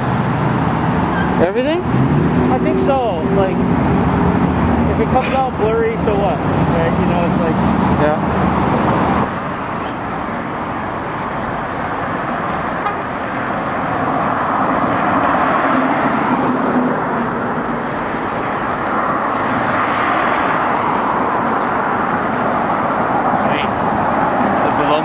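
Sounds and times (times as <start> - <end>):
cars passing on street: 0.0 - 25.0.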